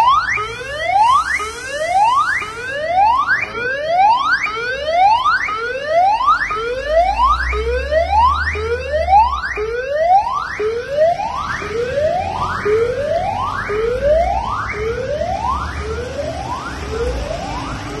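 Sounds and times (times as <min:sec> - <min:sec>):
ambulance siren whooping: 0:00.0 - 0:18.0.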